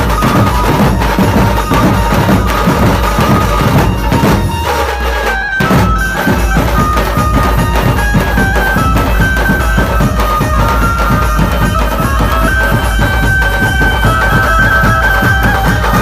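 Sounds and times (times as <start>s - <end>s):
fast drumming: 0.0s - 16.0s
high held-note melody: 0.0s - 16.0s.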